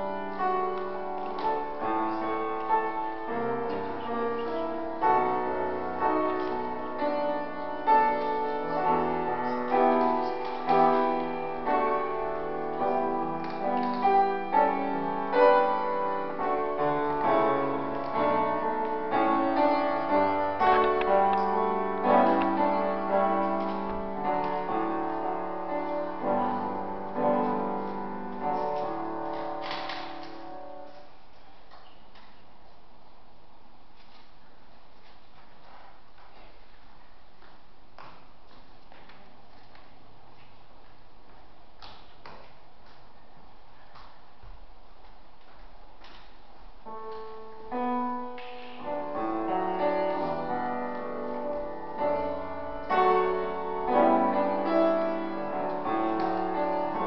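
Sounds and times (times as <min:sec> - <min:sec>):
piano piece: 0:00.0 - 0:57.0.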